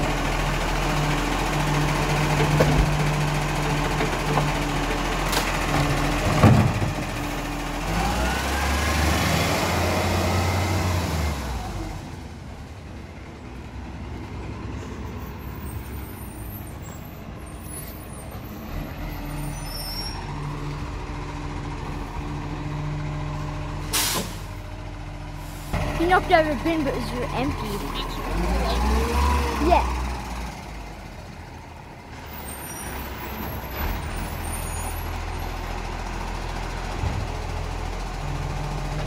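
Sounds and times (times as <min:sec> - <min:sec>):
garbage truck engine running: 0:00.0 - 0:19.6, 0:20.2 - 0:39.0.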